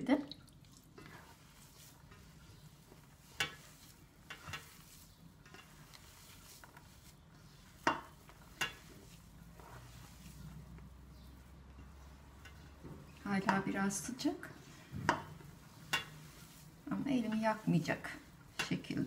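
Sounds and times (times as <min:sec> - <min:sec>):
hands squishing food mixture: 0:00.3 - 0:19.0.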